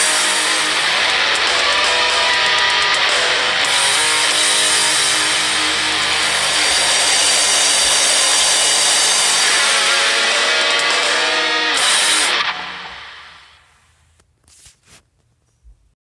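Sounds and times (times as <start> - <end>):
distorted electric guitar rock: 0.0 - 13.7.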